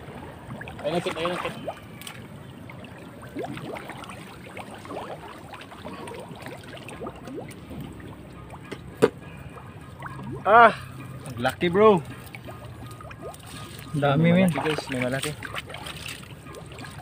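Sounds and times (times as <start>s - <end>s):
water sloshing and dripping: 0.0s - 17.0s.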